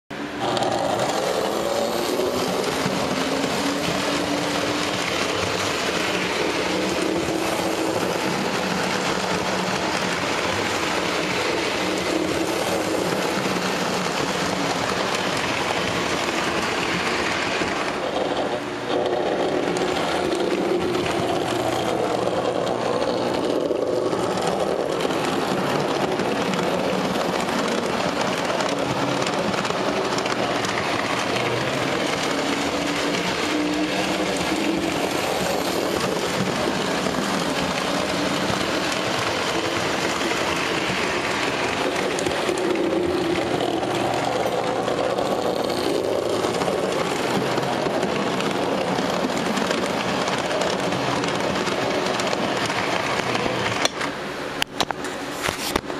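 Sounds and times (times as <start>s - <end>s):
wheels rattling over rails: 0.2s - 55.9s.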